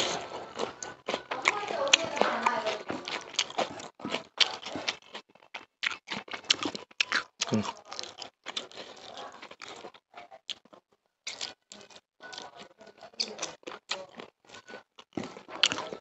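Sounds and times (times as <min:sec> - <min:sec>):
wet chewing and lip smacking: 0:00.0 - 0:16.0.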